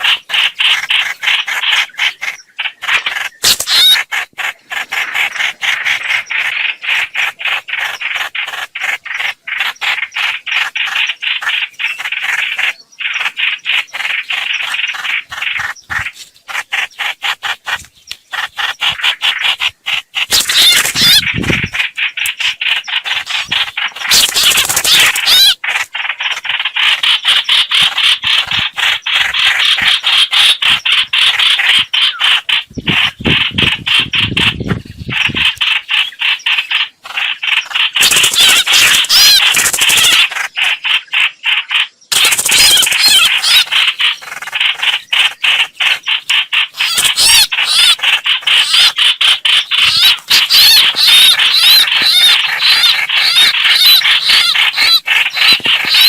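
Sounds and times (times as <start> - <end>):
bird fast chattering call: 0.0 - 56.0.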